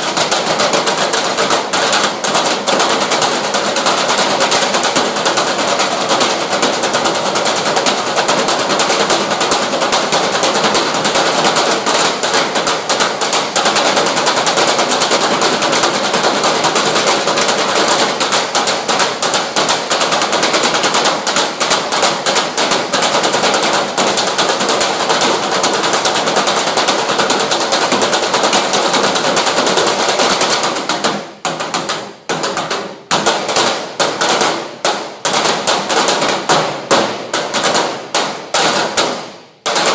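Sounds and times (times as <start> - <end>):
drums played fast: 0.0 - 39.9.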